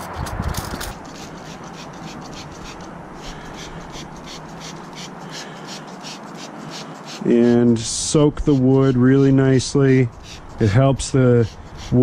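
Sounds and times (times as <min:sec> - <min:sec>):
hand rubbing wet wood: 0:00.0 - 0:12.0.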